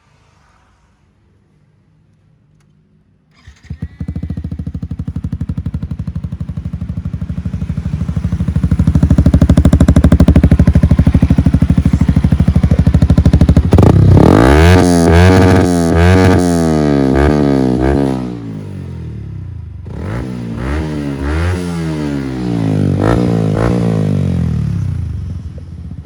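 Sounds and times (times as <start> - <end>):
motorcycle engine idling loudly: 3.4 - 26.0.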